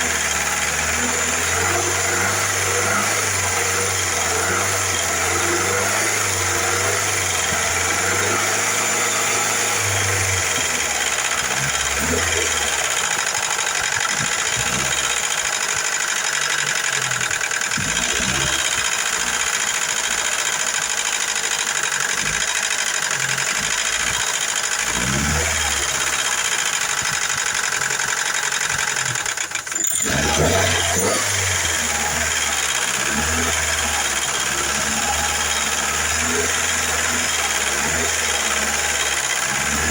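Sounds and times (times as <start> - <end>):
car engine idling: 0.0 - 39.9
hydraulic lifters ticking: 6.1 - 39.9.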